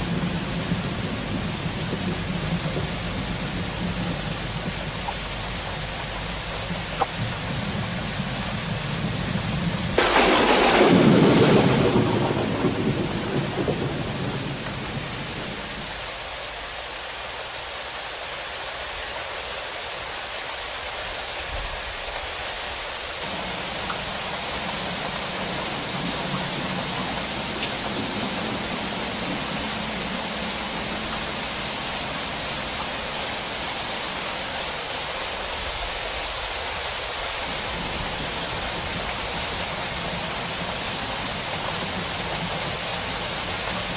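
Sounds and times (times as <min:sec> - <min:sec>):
thunderclap rumbling: 0:00.0 - 0:16.2, 0:23.2 - 0:34.8, 0:35.4 - 0:43.9
heavy rain: 0:00.0 - 0:43.9.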